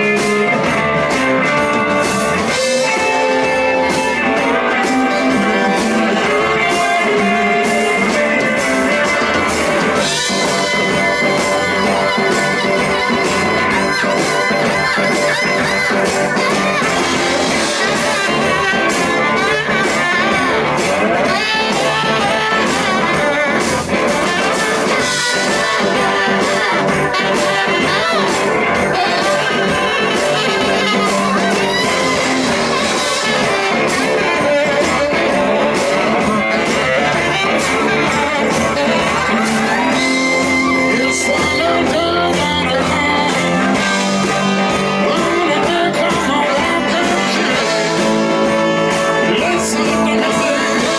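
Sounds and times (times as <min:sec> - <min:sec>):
blues-rock band playing live: 0:00.0 - 0:50.9
electric guitar: 0:00.0 - 0:50.9.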